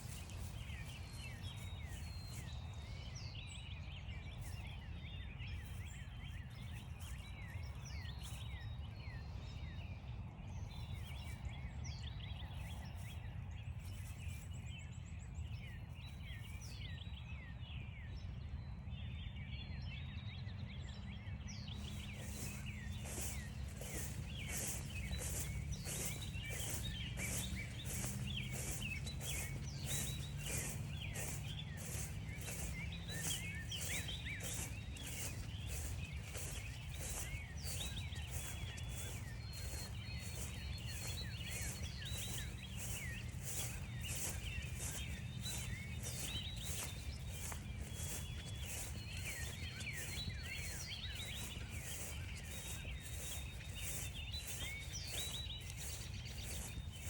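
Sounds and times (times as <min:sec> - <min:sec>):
footsteps crunching through frosty grass: 0:00.0 - 0:16.9, 0:21.6 - 0:57.0
small birds chirping: 0:00.0 - 0:17.4, 0:21.5 - 0:57.0.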